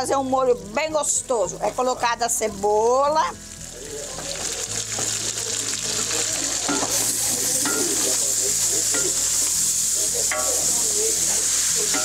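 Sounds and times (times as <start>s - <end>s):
onion sizzling in lard: 0.0s - 12.0s.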